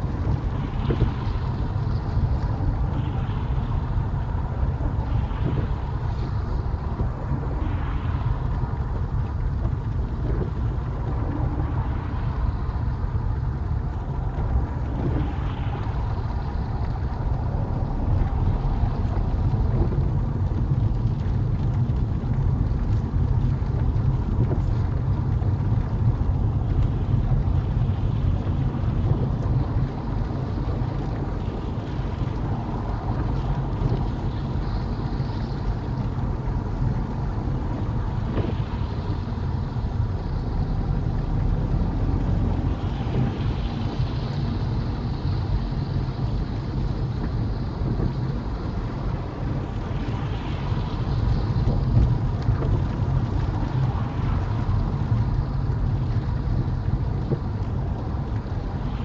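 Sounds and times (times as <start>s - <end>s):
car road and engine rumble: 0.0s - 59.0s
rain hissing on windscreen: 0.0s - 59.0s
ticks of raindrops: 0.0s - 59.0s.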